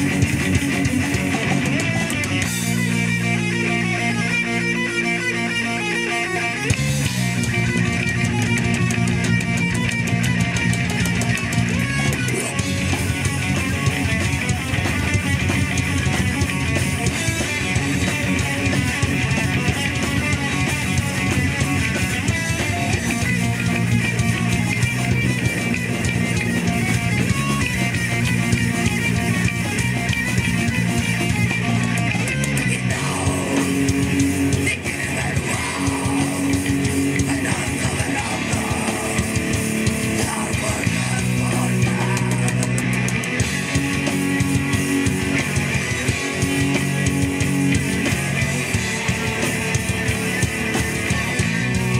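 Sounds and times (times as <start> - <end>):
fast drumming: 0.0 - 3.9, 6.7 - 51.9
distorted electric guitar riffing: 0.0 - 51.9.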